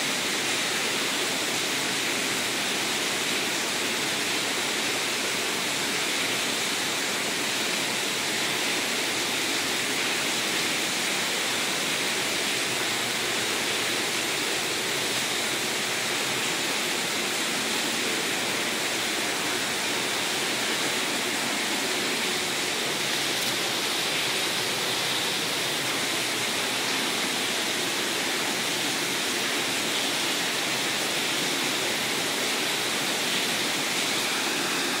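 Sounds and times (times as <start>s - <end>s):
turbulent water roaring: 0.0s - 35.0s.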